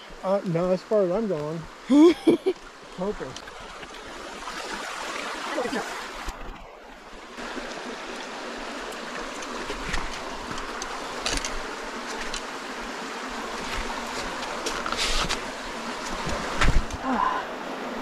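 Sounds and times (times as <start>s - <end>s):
creek running over stones: 0.0s - 18.0s.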